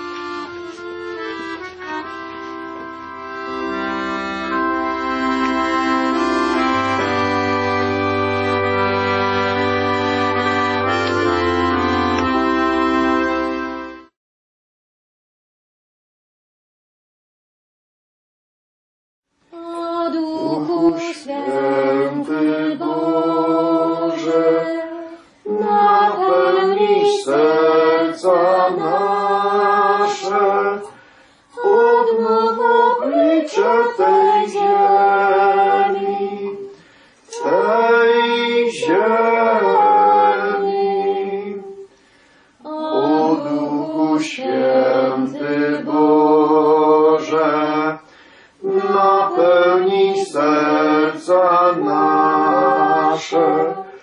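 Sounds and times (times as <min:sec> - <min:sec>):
voices singing a hymn: 0:00.0 - 0:13.9, 0:19.6 - 0:54.0.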